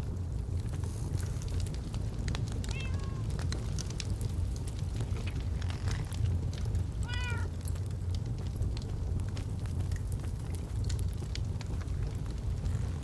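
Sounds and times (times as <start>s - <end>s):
log fire crackling and popping: 0.0s - 13.0s.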